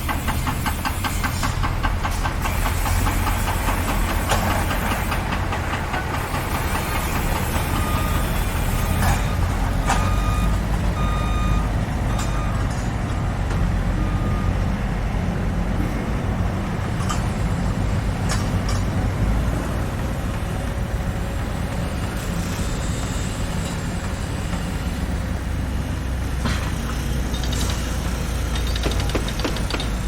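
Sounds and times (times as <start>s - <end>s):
large vehicle engine rumbling: 0.0s - 30.0s.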